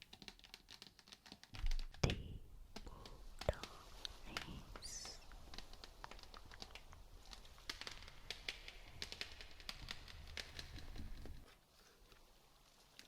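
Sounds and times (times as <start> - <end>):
light clicks and crinkles: 0.0 - 13.0.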